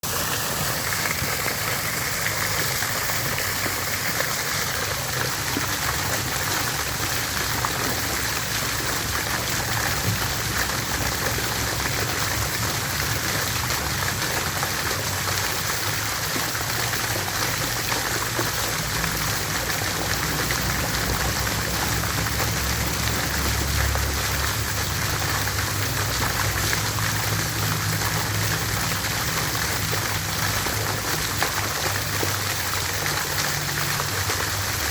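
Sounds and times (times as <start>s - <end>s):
water fountain splashing: 0.0s - 34.9s.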